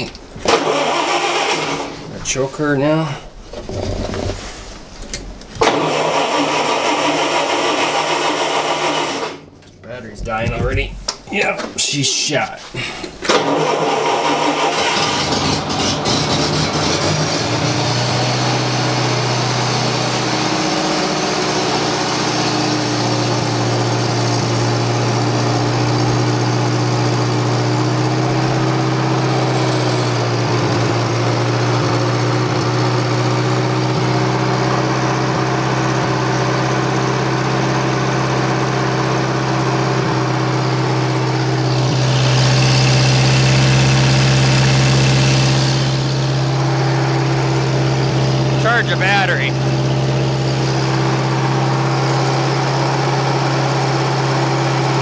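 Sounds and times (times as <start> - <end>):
skid steer engine running: 5.6 - 9.5, 13.3 - 55.0.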